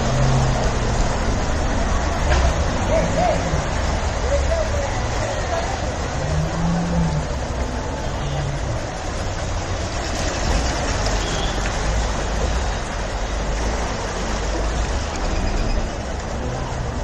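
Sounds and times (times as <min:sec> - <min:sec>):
floodwater rushing down street: 0:00.0 - 0:17.0.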